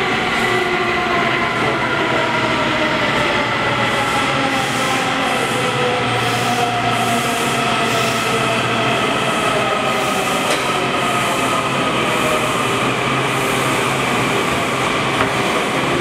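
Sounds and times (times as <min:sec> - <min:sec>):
wheels rushing on rail: 0:00.0 - 0:16.0.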